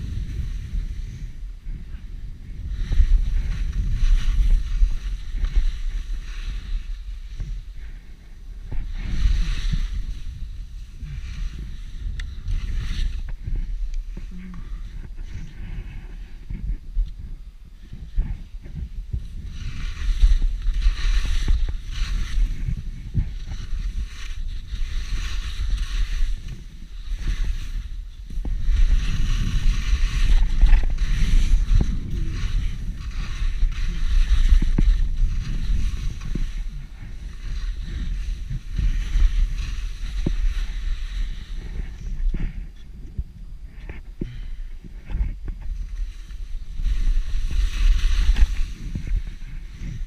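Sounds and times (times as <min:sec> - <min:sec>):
skis scraping over snow: 0:00.0 - 0:42.8, 0:43.7 - 0:50.0
wind rumbling on microphone: 0:00.0 - 0:50.0.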